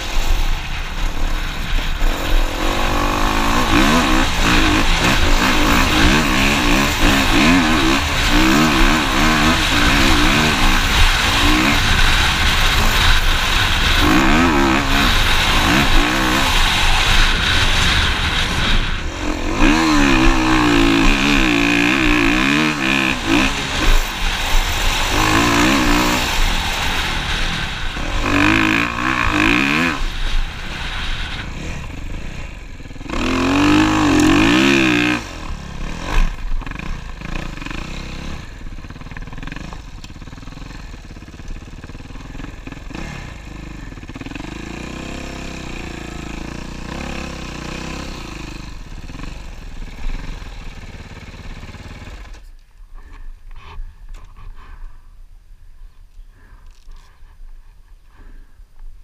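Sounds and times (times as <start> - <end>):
dirt bike engine revving: 0.0 - 53.1.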